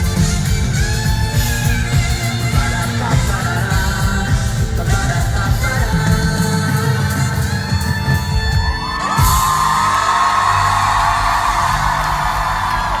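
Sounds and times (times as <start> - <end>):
audience screaming and cheering: 0.0 - 13.0
live pop band playing: 0.0 - 13.0.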